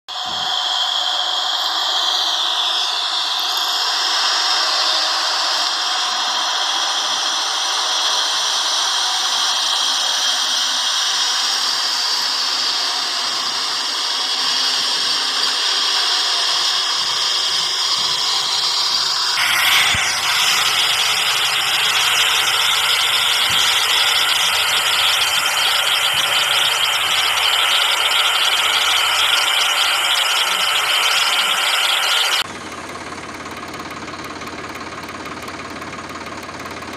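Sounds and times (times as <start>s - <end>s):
harsh hiss: 0.1s - 32.4s
motor-like whirring: 0.1s - 32.5s.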